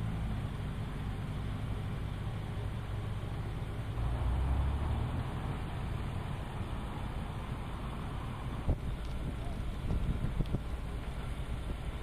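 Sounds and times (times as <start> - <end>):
fire engine idling: 0.0 - 4.0, 5.4 - 12.0.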